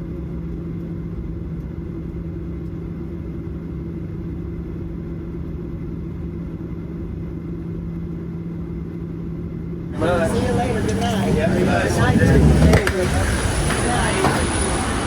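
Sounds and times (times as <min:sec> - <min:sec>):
airplane cabin rumble and hum: 0:00.0 - 0:15.0.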